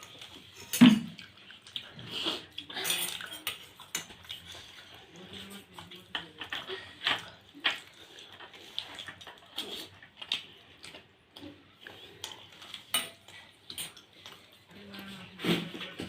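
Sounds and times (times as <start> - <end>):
wet slurping and chewing: 0.0 - 14.8.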